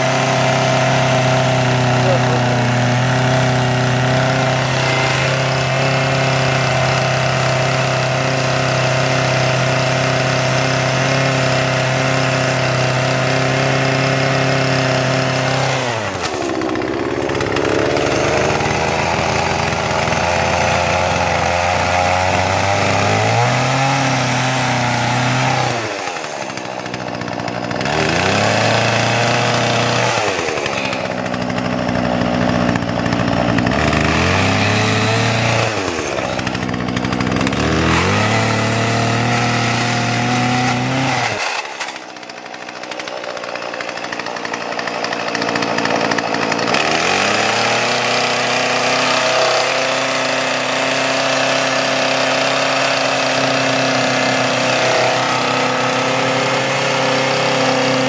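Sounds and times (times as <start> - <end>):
chainsaw engine running: 0.0 - 58.0.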